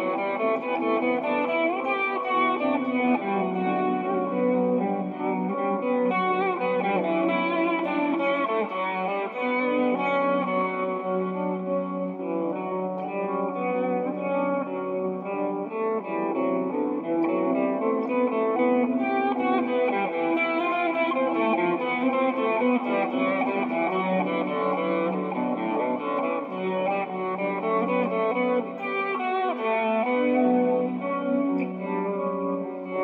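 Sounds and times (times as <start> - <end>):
electric guitar notes and chords: 0.0 - 33.0.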